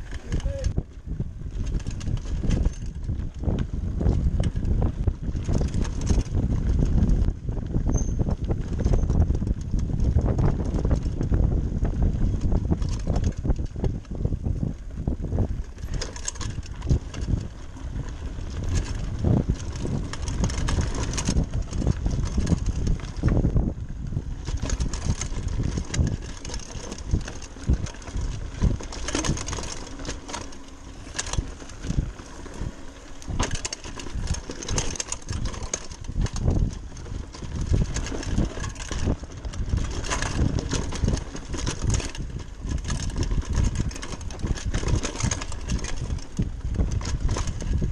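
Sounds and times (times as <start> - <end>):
bike rattling over dirt trail: 0.0 - 47.9.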